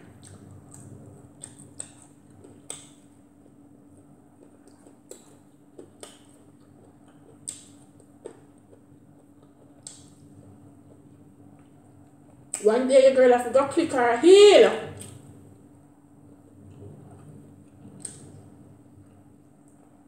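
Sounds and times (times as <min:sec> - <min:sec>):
chewing and smacking: 0:00.0 - 0:12.6, 0:16.3 - 0:20.0
faint steady hum: 0:00.0 - 0:20.0.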